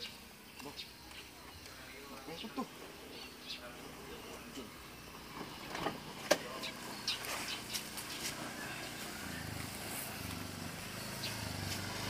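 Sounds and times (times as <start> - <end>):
scooter engine humming: 0.0 - 12.0.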